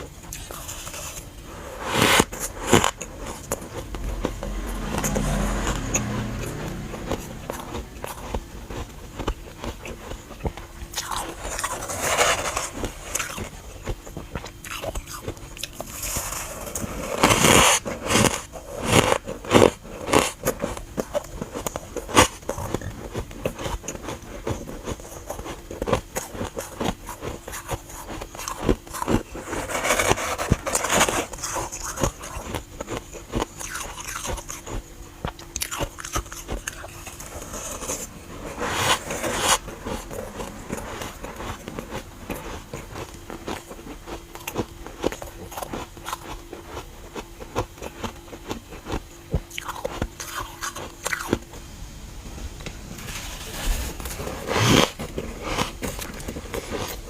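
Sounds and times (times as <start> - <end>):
chewing crunchy frost: 0.0 - 51.6, 53.2 - 57.0.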